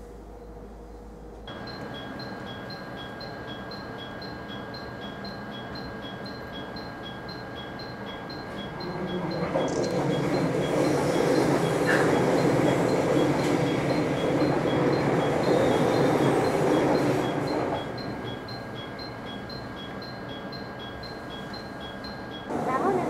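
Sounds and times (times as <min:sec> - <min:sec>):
passing train wheel and motor noise: 0:01.5 - 0:23.0.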